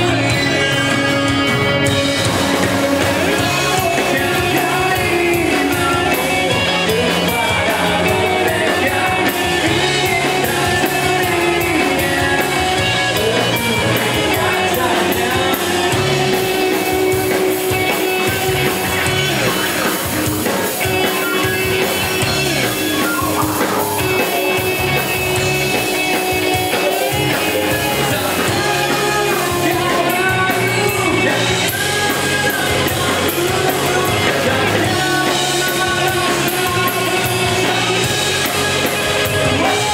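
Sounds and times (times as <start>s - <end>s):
lead singer singing: 0.0s - 39.9s
rock band playing: 0.0s - 39.9s.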